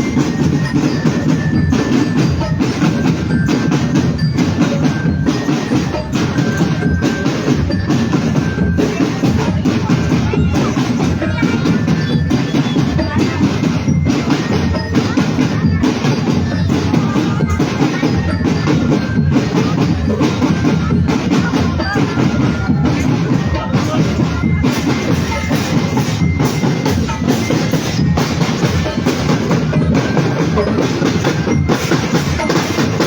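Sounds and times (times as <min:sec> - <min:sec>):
glockenspiel notes: 0:00.0 - 0:33.0
snare and bass drums beating: 0:00.0 - 0:33.0.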